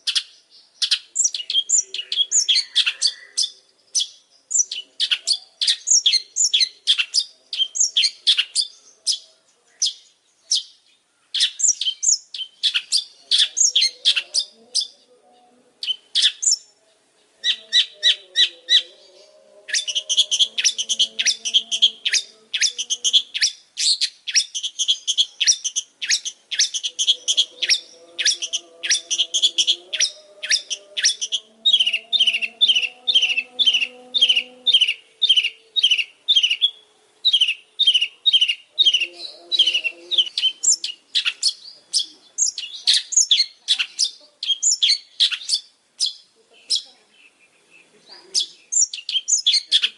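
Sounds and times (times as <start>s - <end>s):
bird chattering song: 0.0s - 49.9s.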